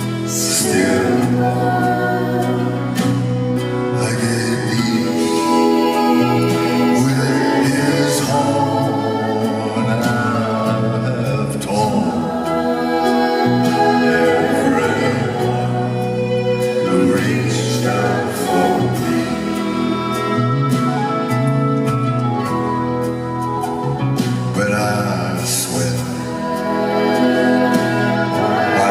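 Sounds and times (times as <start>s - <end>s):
singing voices: 0.0s - 21.8s, 23.9s - 28.9s
band playing a slow song: 0.0s - 28.9s.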